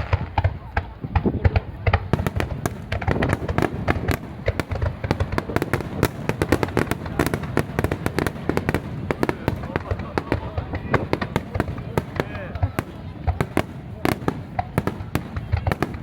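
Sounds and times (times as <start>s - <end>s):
fireworks booming: 0.0s - 16.0s
fireworks crackling pops: 0.0s - 16.0s.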